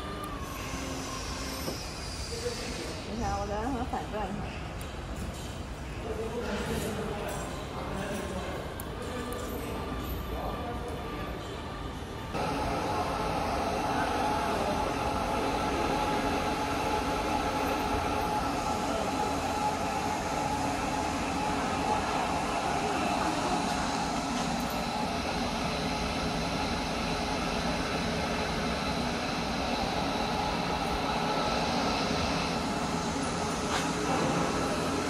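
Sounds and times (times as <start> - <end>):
conveyor motor hum: 5.9 - 35.0.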